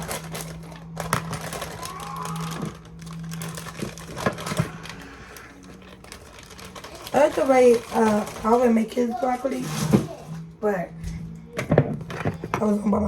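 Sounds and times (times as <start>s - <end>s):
crinkling: 0.0s - 10.5s.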